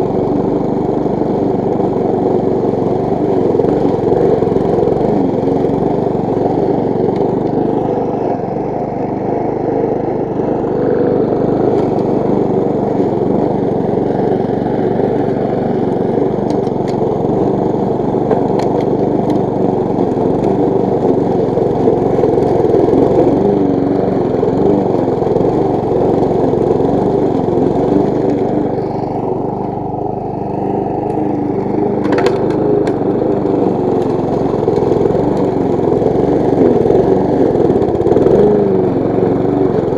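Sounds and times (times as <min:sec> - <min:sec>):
lawn mower cutting grass: 0:00.0 - 0:39.9.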